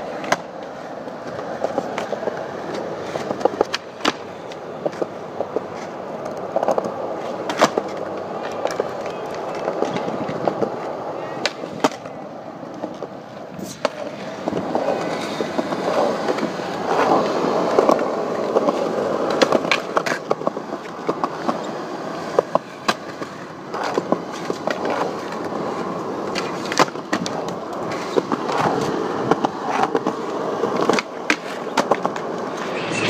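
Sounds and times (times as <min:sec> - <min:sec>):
skateboard clacks: 0:00.0 - 0:32.8
skateboard wheels rolling on concrete: 0:00.0 - 0:33.0.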